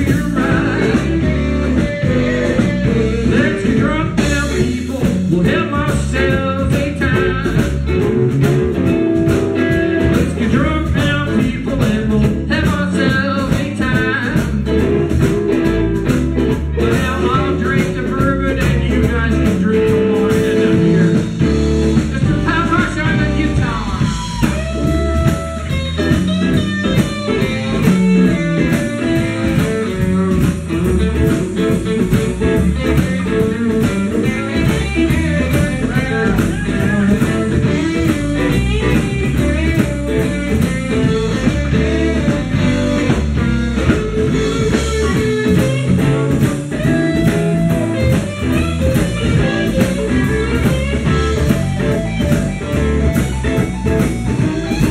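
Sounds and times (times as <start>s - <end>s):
electric guitar: 0.0s - 54.9s
live blues band playing: 0.0s - 54.9s.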